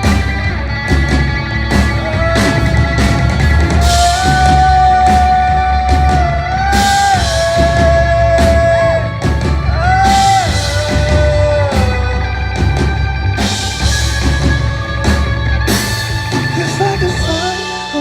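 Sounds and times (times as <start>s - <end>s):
live rock band playing: 0.0s - 18.0s
singer holding long notes: 0.0s - 18.0s.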